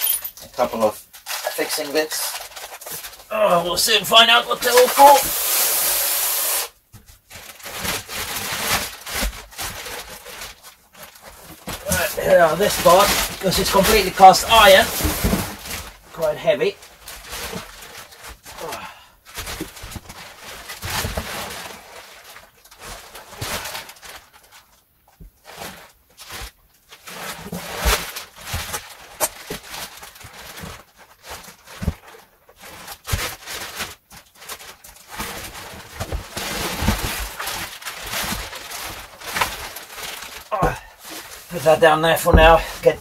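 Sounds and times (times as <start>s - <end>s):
plastic wrapping rustling: 0.0s - 5.9s, 6.5s - 43.0s.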